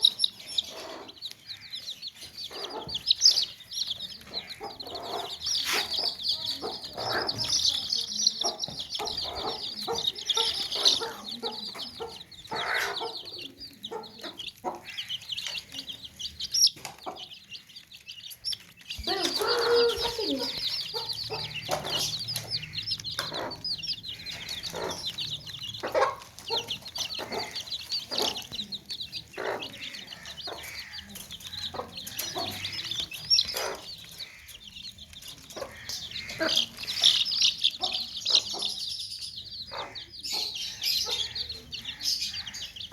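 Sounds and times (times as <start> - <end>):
baby chicks peeping: 0.0 - 42.9.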